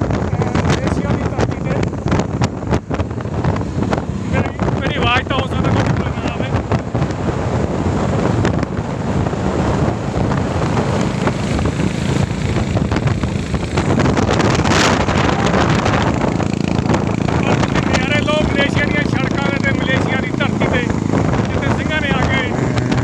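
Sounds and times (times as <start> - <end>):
motorcycle engine and tyre noise: 0.0 - 23.0
wind rushing over microphone: 0.0 - 23.0.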